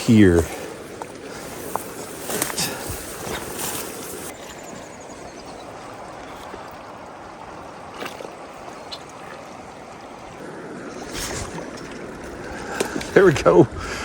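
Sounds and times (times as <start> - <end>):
river current rushing: 0.0 - 14.0.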